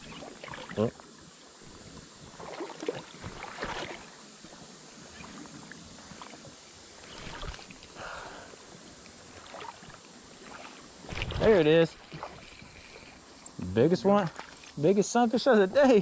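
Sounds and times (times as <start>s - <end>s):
light water noise: 0.0s - 16.0s.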